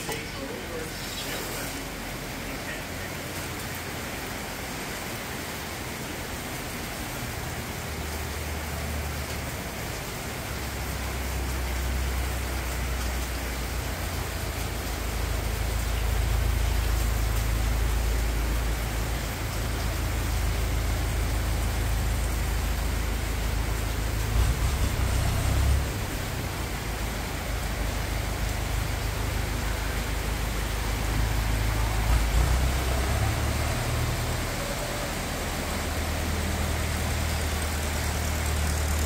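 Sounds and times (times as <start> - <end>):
heavy rain hissing: 0.0 - 39.0.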